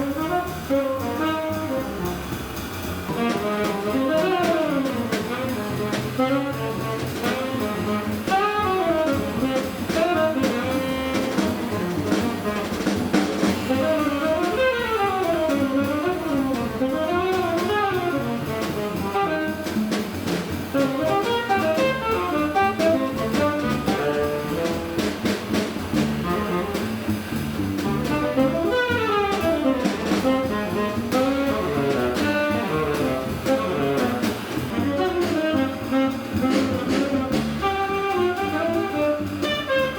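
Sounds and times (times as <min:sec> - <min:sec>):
drum kit: 0:00.0 - 0:39.9
jazz saxophone playing: 0:00.0 - 0:39.9.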